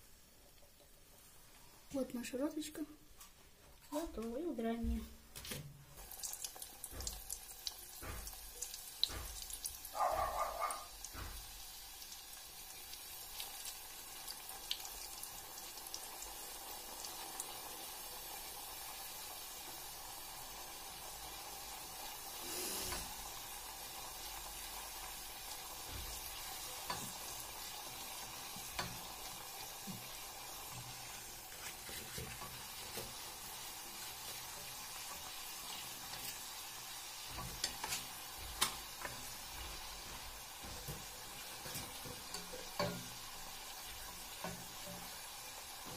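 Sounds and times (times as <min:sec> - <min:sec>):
dough sizzling in hot oil: 0:05.3 - 0:45.9.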